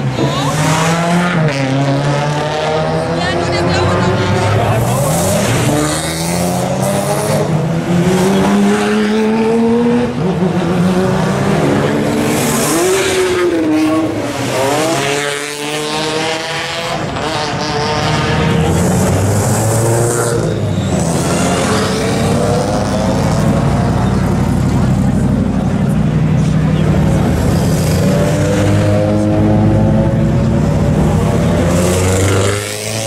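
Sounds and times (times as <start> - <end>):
race cars accelerating past: 0.0 - 33.0.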